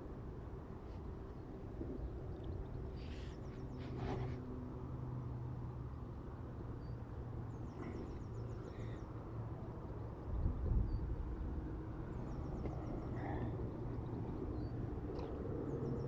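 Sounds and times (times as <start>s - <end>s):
distant traffic hum: 0.0s - 16.0s.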